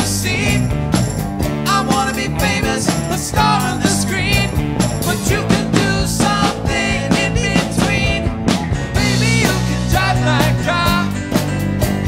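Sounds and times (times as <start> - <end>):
live rock band playing: 0.0 - 12.0
steady drumbeat: 0.0 - 12.0.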